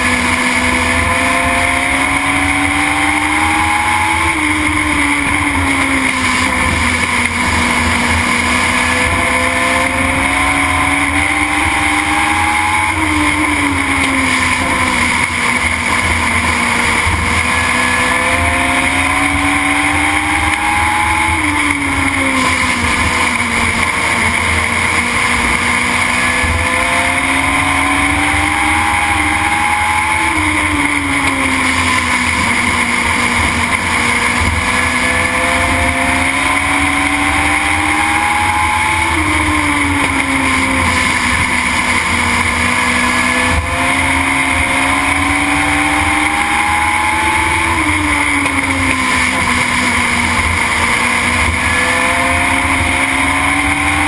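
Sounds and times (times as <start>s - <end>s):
race car engine at speed: 0.0s - 54.0s
wind and road noise: 0.0s - 54.0s.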